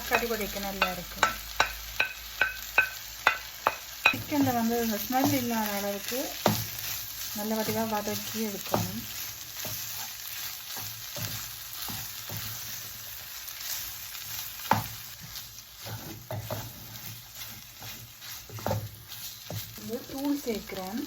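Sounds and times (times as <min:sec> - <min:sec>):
spoon scraping a pan: 0:00.0 - 0:20.9
food sizzling in oil: 0:00.0 - 0:21.0.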